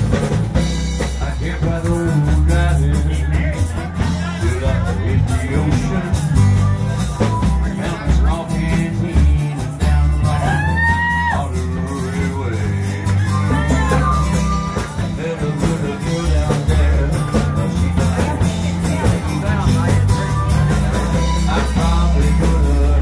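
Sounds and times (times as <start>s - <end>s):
acoustic guitars: 0.0s - 23.0s
bass guitar: 0.0s - 23.0s
person singing: 0.2s - 23.0s.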